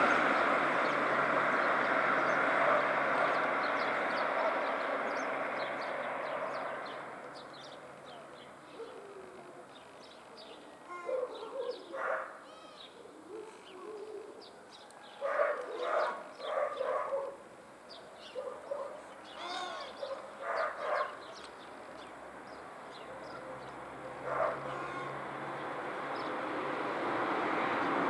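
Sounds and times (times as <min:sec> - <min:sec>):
small birds chirping: 0:00.4 - 0:26.5.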